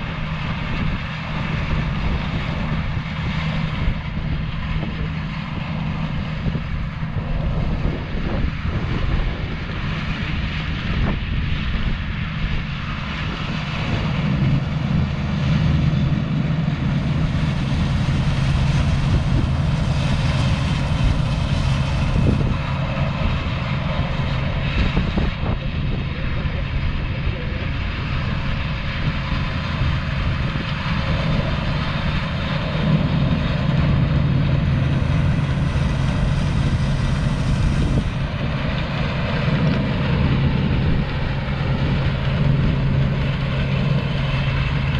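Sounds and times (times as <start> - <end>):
combine harvester droning: 0.0 - 44.9.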